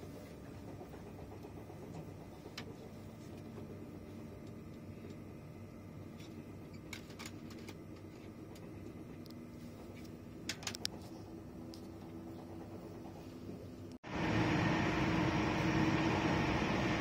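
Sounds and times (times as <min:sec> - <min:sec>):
train cabin drone: 0:00.0 - 0:17.0.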